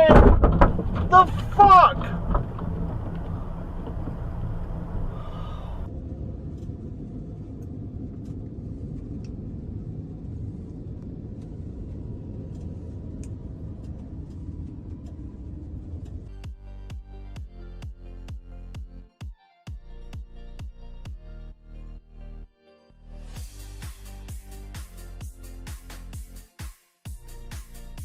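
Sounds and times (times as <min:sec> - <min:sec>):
car engine and road rumble: 0:00.0 - 0:19.1, 0:19.8 - 0:26.4.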